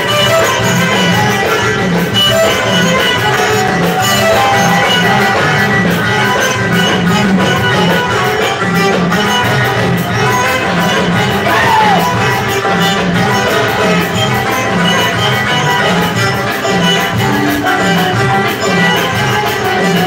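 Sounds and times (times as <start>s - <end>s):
amplified band playing dance music: 0.0s - 20.0s
driving drum beat: 0.0s - 20.0s.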